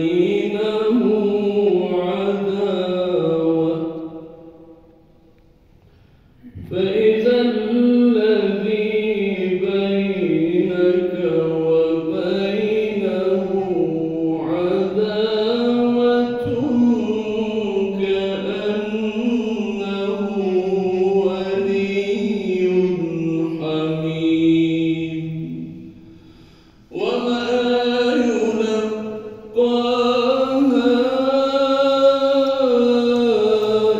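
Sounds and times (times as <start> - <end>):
man chanting melodically: 0.0 - 4.7, 6.4 - 25.9, 26.9 - 33.9.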